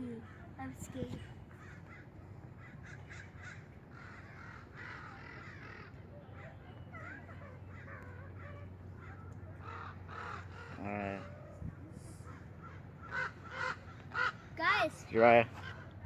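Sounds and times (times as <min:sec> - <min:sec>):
crows cawing: 0:01.5 - 0:16.0.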